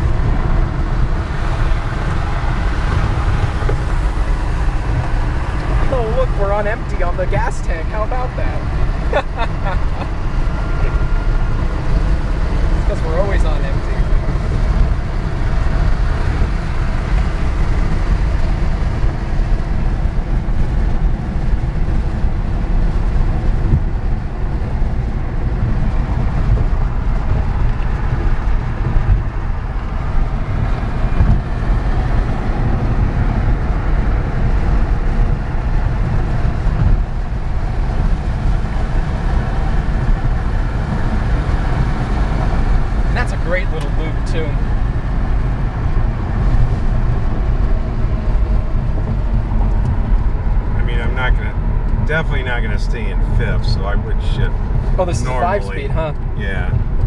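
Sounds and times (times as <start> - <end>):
car cabin road and wind noise: 0.0 - 57.0.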